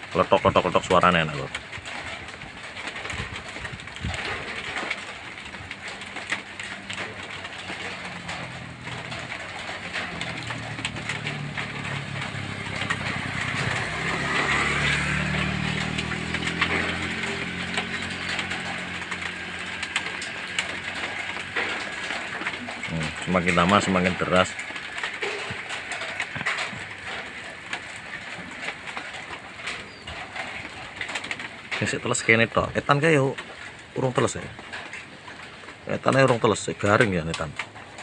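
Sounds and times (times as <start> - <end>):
heavy rain on metal roof: 0.0 - 38.0
vehicle engine hum: 0.0 - 38.0.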